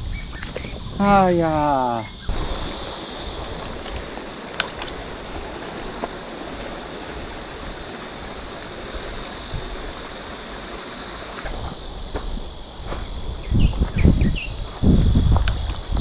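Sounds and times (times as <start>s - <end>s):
high even hiss: 0.0s - 16.0s
stream water rushing: 1.0s - 16.0s.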